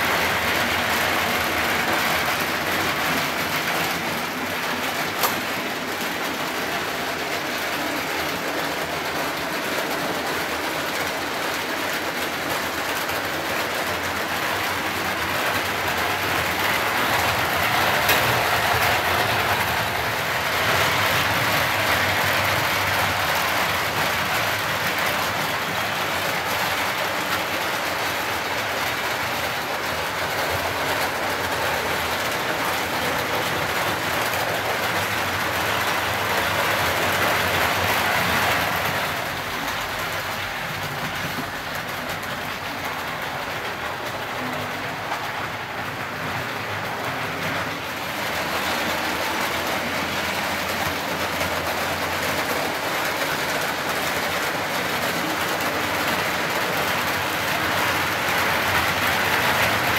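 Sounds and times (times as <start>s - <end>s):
model trains running on track: 0.0s - 59.9s.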